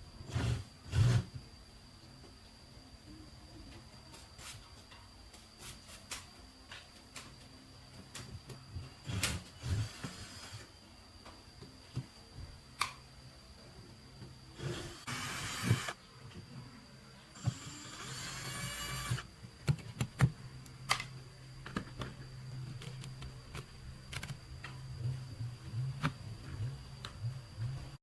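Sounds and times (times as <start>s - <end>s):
faint high whine: 0.0s - 28.0s.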